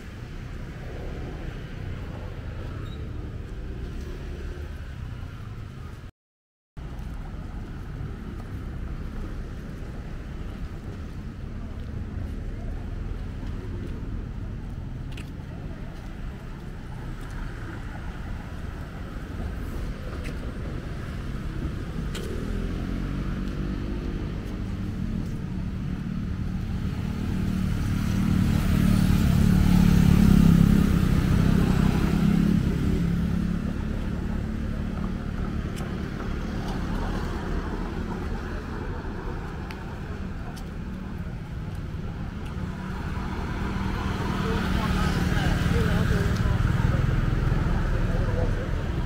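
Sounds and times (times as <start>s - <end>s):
cars and motorbikes passing: 0.0s - 6.0s, 6.9s - 49.0s.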